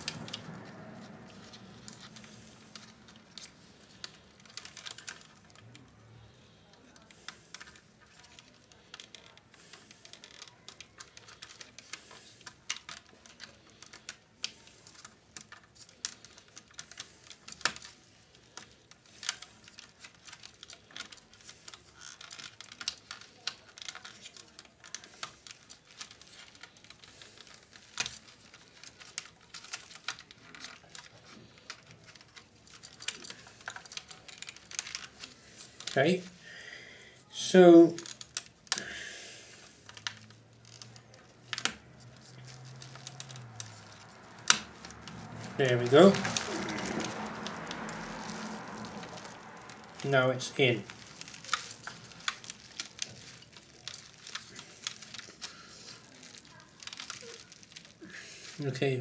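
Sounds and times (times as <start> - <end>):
hands handling wires and plastic: 0.0 - 59.0.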